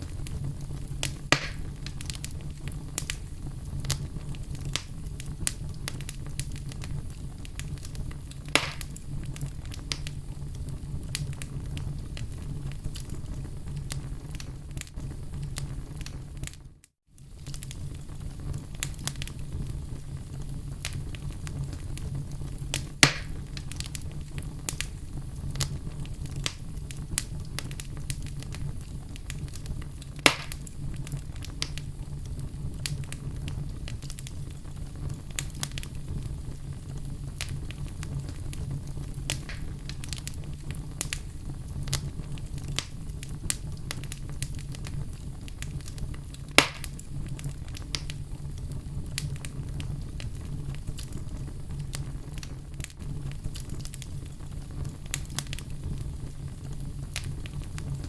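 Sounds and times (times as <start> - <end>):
sharp fire pops: 0.0 - 16.6, 17.2 - 58.0
low fire rumble: 0.0 - 58.0
wood fire crackling: 0.0 - 58.0.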